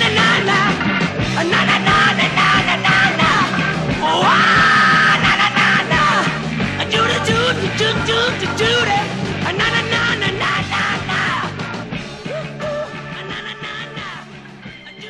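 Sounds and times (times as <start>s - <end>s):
hard rock song: 0.0s - 15.0s.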